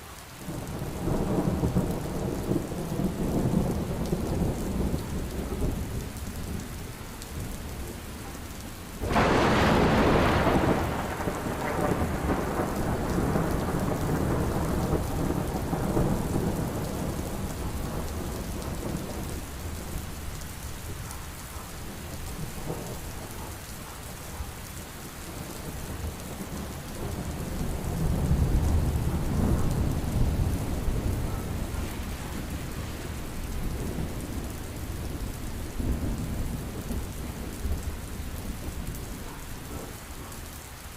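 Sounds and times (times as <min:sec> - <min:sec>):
heavy rain falling: 0:00.0 - 0:40.9
thunder rumbling: 0:00.5 - 0:40.4.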